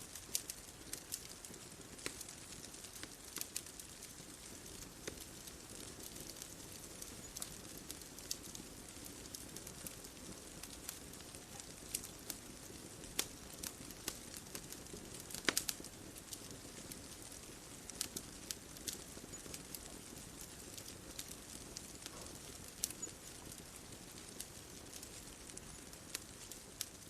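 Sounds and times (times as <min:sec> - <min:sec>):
bonfire crackling and popping: 0:00.0 - 0:27.0.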